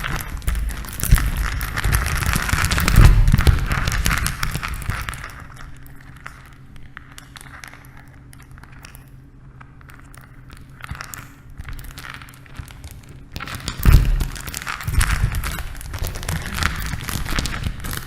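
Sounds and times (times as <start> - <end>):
rocks crumbling and cracking: 0.0 - 9.0, 9.8 - 18.0.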